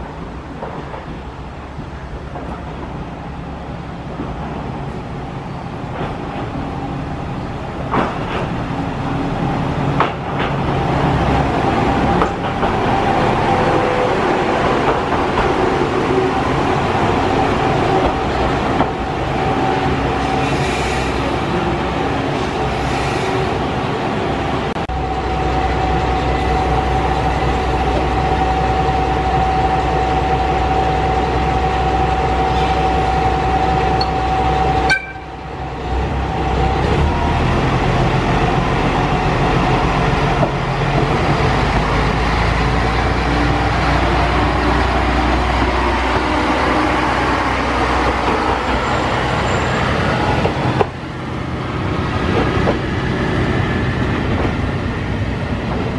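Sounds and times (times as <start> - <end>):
diesel railcar engine rumble: 0.0 - 55.9.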